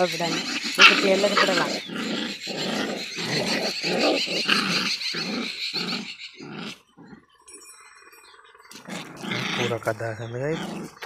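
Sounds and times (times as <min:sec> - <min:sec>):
small dogs growling: 0:00.0 - 0:07.4, 0:08.7 - 0:11.0.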